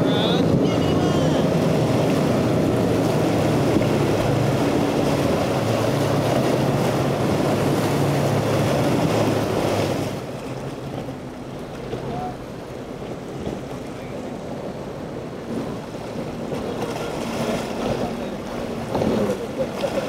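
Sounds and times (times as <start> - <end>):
outboard motors running hard: 0.0 - 20.0
spray and waves splashing: 0.0 - 20.0.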